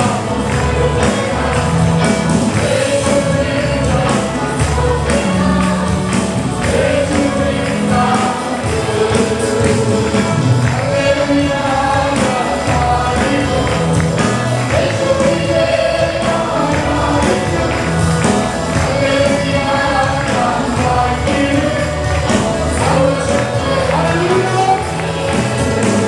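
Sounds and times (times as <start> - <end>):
group singing gospel song: 0.0 - 26.0
instrumental backing: 0.0 - 26.0
steady percussion beat: 0.0 - 26.0.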